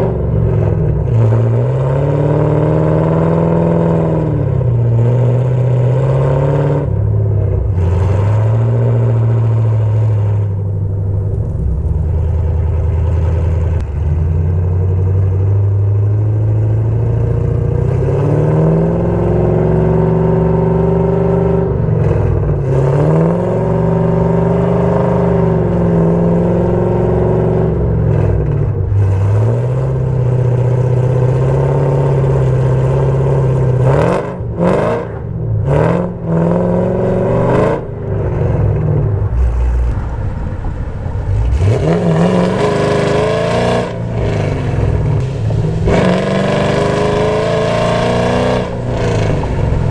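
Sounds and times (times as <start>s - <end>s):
loud car exhaust note: 0.0s - 49.9s.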